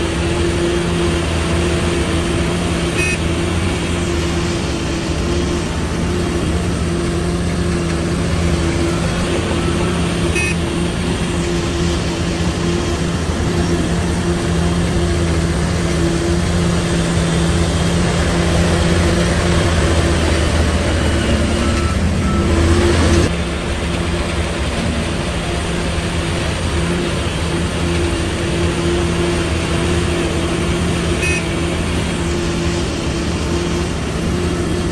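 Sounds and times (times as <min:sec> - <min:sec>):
diesel machinery engine drone: 0:00.0 - 0:34.9.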